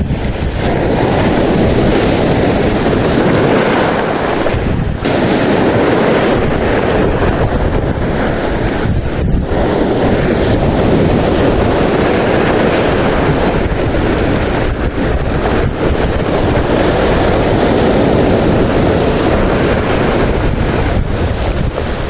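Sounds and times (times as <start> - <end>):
sea water washing: 0.0 - 22.0
wind buffeting microphone: 0.0 - 22.0.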